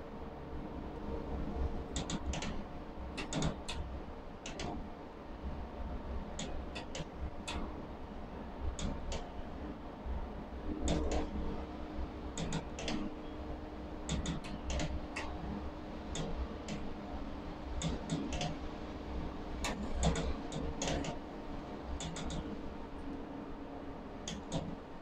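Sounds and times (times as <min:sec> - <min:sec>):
machine hum and low rumble: 0:00.0 - 0:25.0.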